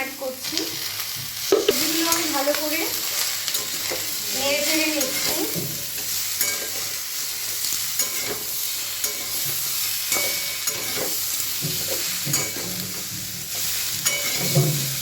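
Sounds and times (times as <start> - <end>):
vegetables sizzling in oil: 0.0 - 15.0
spatula scraping pan: 1.4 - 15.0.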